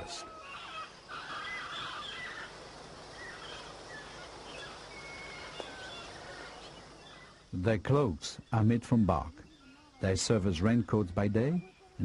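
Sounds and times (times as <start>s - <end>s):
bird calls: 0.0s - 12.0s
steady background hiss: 0.0s - 12.0s.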